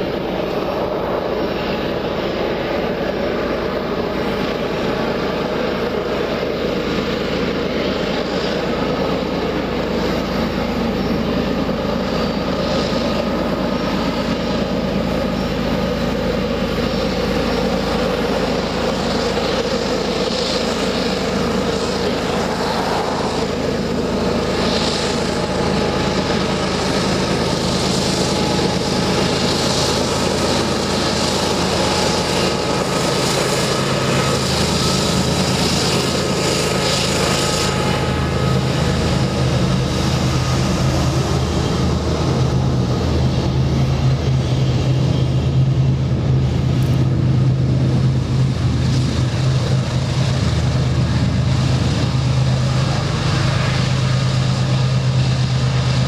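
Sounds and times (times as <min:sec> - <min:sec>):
diesel locomotive engines thrumming: 0:00.0 - 0:56.0.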